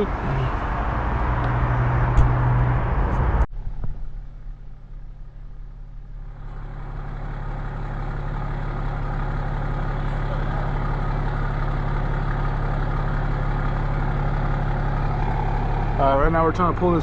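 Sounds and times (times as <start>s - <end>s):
quiet engine hum: 0.0s - 17.0s
road noise: 0.0s - 17.0s
vehicle engine running: 0.0s - 17.0s.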